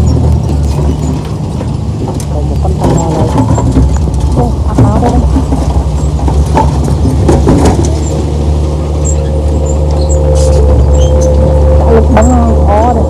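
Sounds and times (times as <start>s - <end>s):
diesel engine running under load: 0.0s - 13.0s
steady whine: 0.0s - 13.0s.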